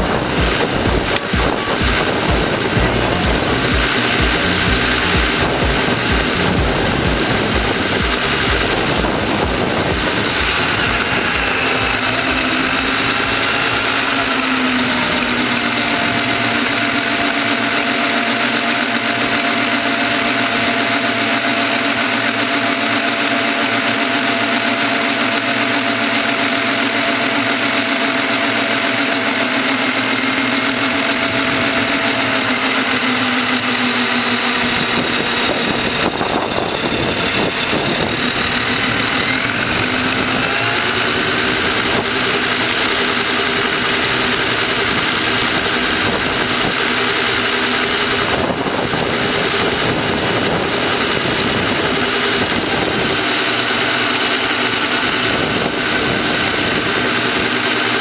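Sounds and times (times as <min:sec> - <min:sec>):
steady rushing noise: 0:00.0 - 0:58.0
toy car motor whining: 0:00.0 - 0:58.0.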